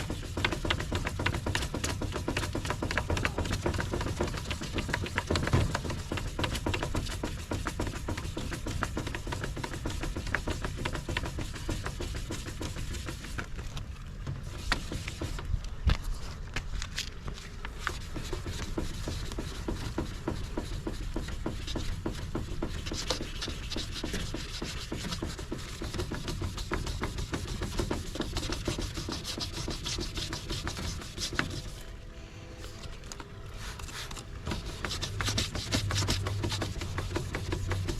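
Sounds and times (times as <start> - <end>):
sandpaper scrubbing plastic: 0.0 - 13.8, 14.4 - 31.9, 33.5 - 37.9.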